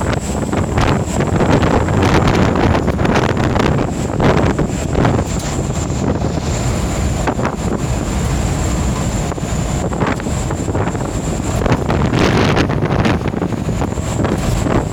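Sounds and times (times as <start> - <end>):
thin high whine: 0.0 - 14.9
wind buffeting microphone: 0.0 - 14.9.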